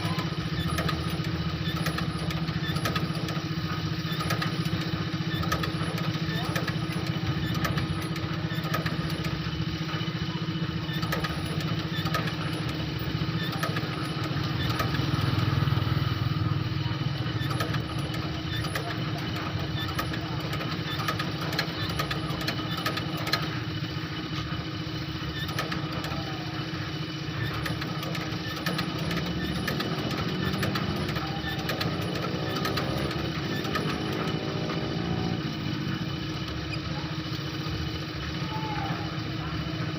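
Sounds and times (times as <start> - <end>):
fast mechanical ticks: 0.0 - 39.9
stitching machine humming: 0.0 - 39.9.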